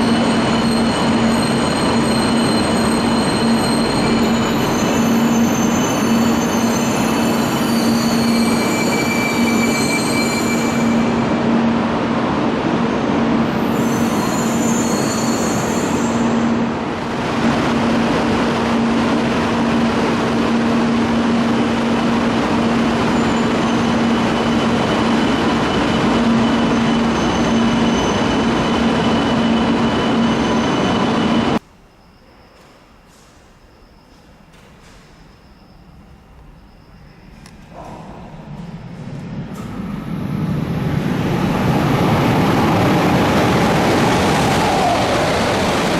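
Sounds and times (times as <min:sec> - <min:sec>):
bullet train rushing with hum: 0:00.0 - 0:45.9.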